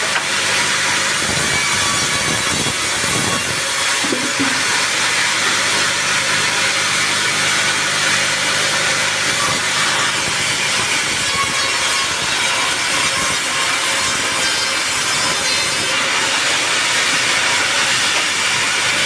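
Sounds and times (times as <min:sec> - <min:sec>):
saw cutting through log: 0:00.0 - 0:19.0.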